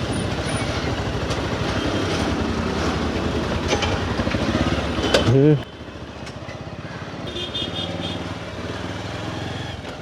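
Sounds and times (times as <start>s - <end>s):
road and wind noise: 0.0s - 10.0s
vehicle engine rumble: 0.0s - 10.0s.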